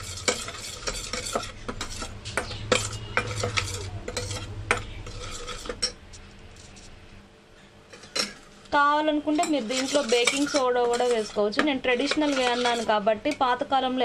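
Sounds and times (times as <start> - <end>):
spoon scraping in a metal bowl: 0.0 - 7.0, 7.9 - 8.5, 9.2 - 13.6.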